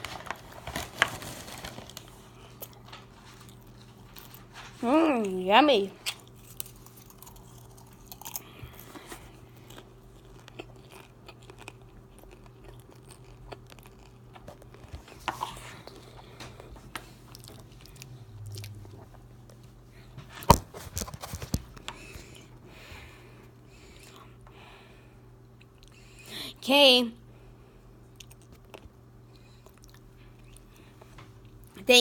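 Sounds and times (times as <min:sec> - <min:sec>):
faint low hum: 0:00.0 - 0:32.0
person chewing popcorn: 0:01.8 - 0:05.3, 0:06.0 - 0:24.6, 0:25.4 - 0:26.3, 0:28.0 - 0:31.8.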